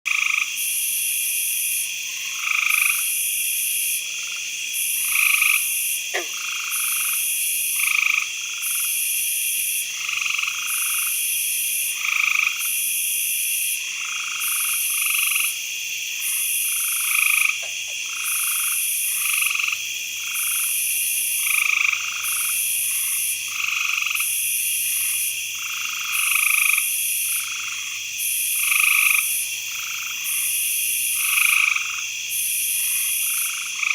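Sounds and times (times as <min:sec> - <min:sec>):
frogs calling in chorus: 0:00.1 - 0:00.7, 0:02.1 - 0:09.2, 0:09.8 - 0:12.9, 0:13.6 - 0:33.9.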